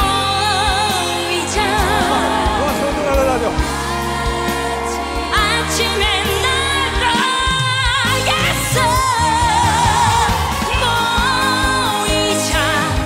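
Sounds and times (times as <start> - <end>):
live band with bass and beat: 0.0 - 13.0
woman singing with vibrato: 0.0 - 13.0.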